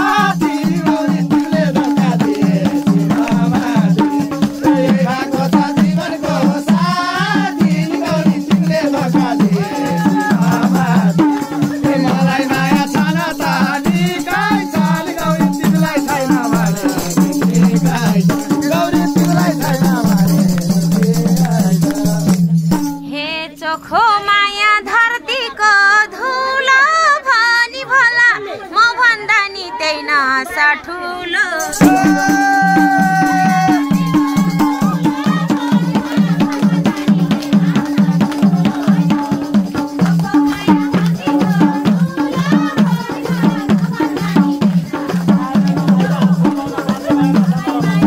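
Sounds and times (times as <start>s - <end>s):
people singing: 0.0s - 22.9s, 24.6s - 48.0s
tambourine jingling fast: 0.0s - 23.1s, 31.6s - 48.0s.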